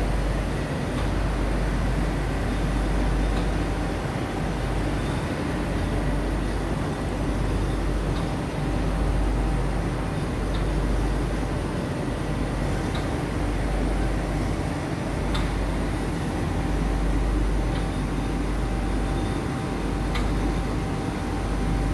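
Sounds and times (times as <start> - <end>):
printing machinery droning: 0.0 - 21.9.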